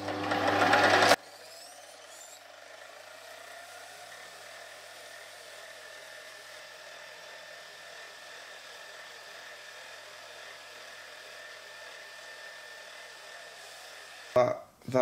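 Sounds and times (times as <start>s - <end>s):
mini lathe running: 0.0s - 14.4s.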